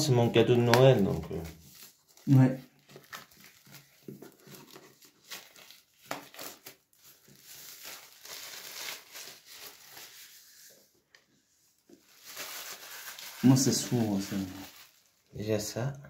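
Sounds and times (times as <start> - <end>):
plastic shrink-wrap crinkling and tearing: 0.2 - 10.8, 11.9 - 15.7.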